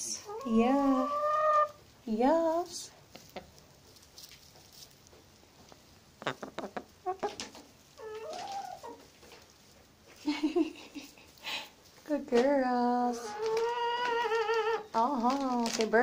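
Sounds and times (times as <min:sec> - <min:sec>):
hens clucking: 0:00.2 - 0:01.9, 0:03.0 - 0:11.4, 0:13.0 - 0:15.9.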